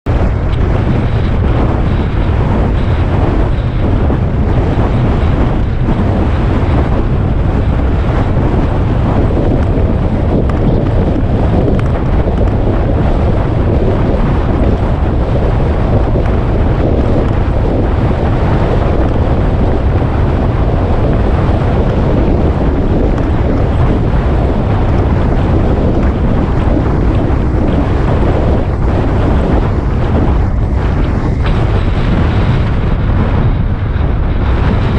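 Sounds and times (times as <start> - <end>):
wind rushing over microphone: 0.0 - 34.9
motorcycle engine: 0.1 - 34.9.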